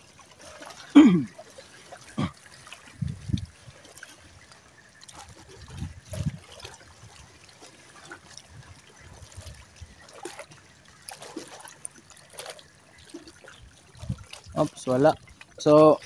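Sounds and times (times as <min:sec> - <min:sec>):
seawater lapping and trickling: 0:00.0 - 0:16.0.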